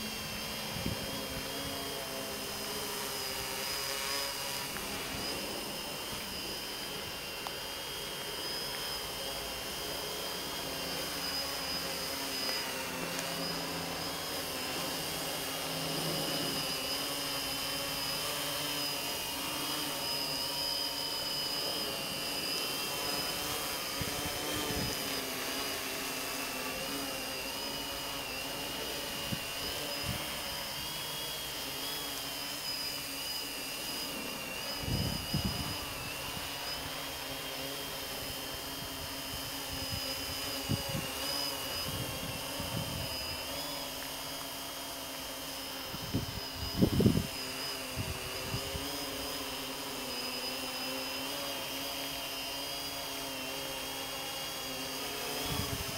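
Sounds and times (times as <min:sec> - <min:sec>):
drone propellers whining: 0:00.0 - 0:55.9.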